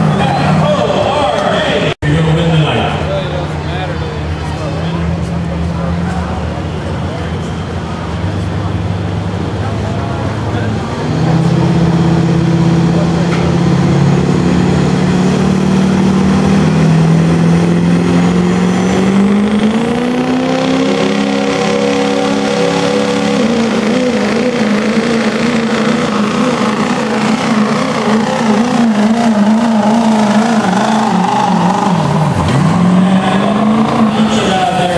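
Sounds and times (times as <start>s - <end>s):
diesel engine under full load: 0.0s - 34.9s.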